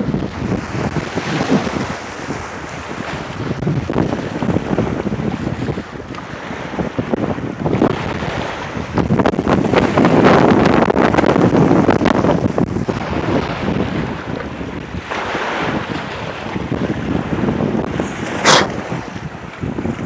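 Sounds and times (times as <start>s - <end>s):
water slapping along shore: 0.0s - 20.0s
wind buffeting microphone: 0.0s - 20.0s.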